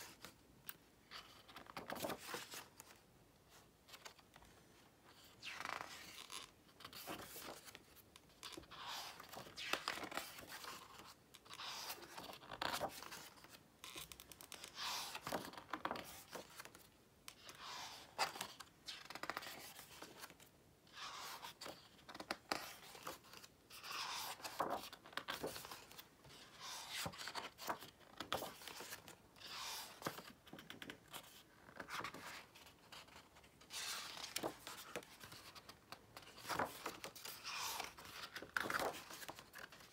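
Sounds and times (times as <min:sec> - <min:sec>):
book pages turning: 0:01.1 - 0:04.5, 0:05.1 - 0:39.9.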